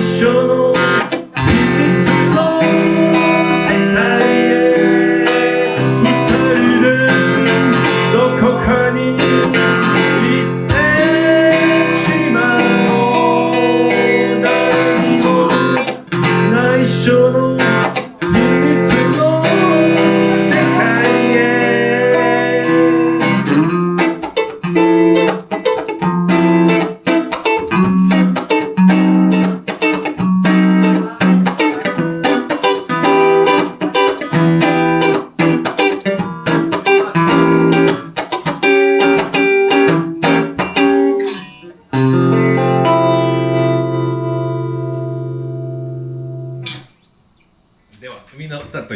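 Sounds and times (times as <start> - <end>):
electric guitar playing: 0.0 - 47.7.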